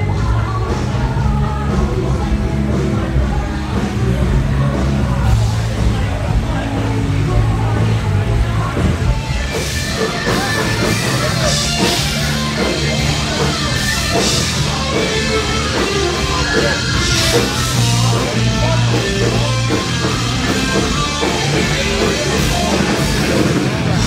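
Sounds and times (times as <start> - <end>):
loud rock music: 0.0 - 24.0
low bass line: 0.0 - 24.0.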